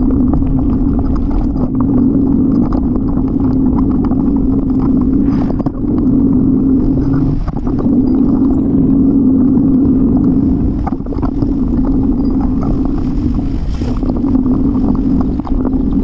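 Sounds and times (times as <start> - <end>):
bicycle tyres rumbling: 0.0 - 16.0
wind: 0.0 - 16.0.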